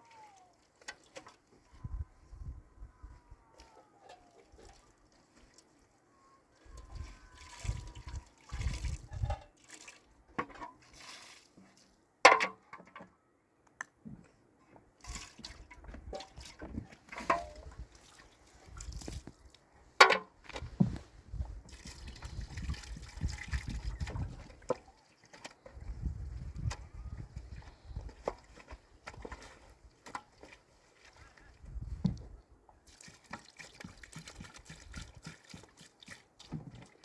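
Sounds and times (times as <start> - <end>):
water splashing and dribbling: 0.0 - 12.6, 15.0 - 37.0.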